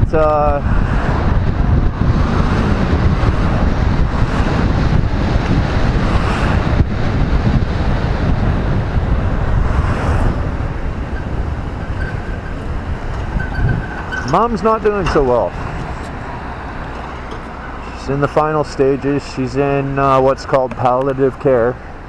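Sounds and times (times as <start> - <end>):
motorcycle road noise: 0.0 - 22.0
wind buffeting microphone: 0.0 - 22.0.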